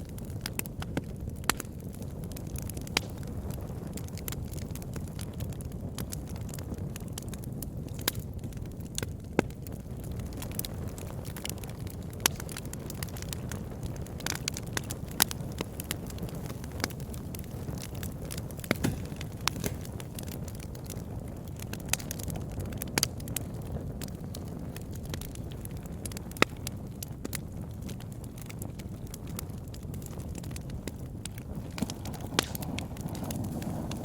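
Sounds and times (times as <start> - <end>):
campfire rumbling: 0.0 - 34.0
wood crackling and popping: 0.0 - 34.0.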